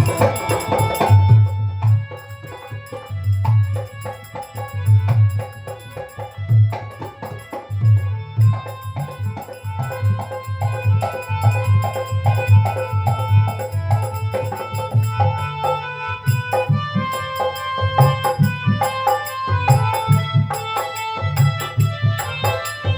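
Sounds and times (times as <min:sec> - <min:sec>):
hand drum beat: 0:00.0 - 0:22.9
jingling percussion: 0:00.0 - 0:22.9.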